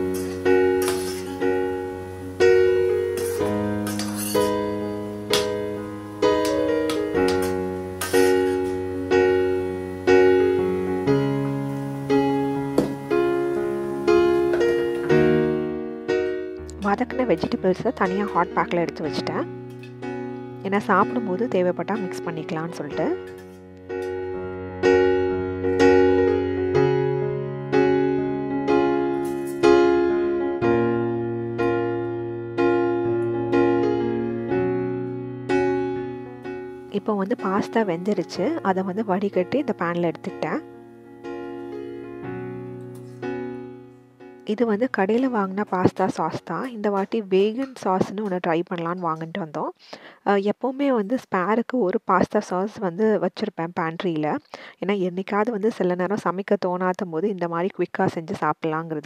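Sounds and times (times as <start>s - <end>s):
soft piano chords: 0.0s - 48.5s.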